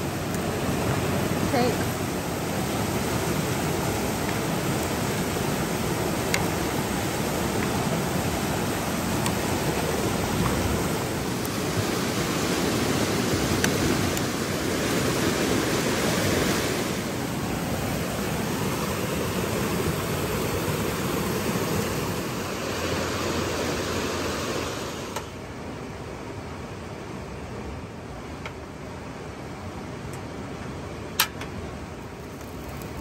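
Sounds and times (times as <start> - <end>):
river rushing over rapids: 0.0 - 33.0.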